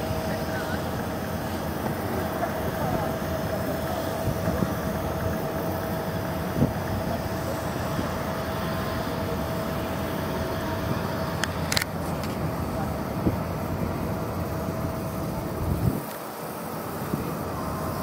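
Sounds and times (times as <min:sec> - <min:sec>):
distant jet engines rumbling: 0:00.0 - 0:18.0.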